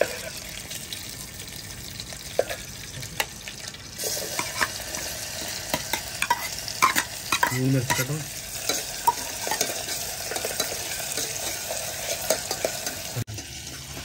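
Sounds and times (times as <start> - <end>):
onions sizzling in ghee: 0.0 - 14.0.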